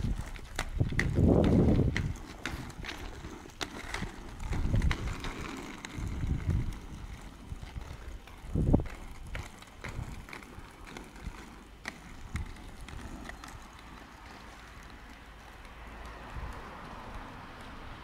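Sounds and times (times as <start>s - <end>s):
wind rumble on microphone: 0.0s - 13.6s, 16.1s - 18.0s
inline skate wheels rolling on asphalt: 0.0s - 18.0s.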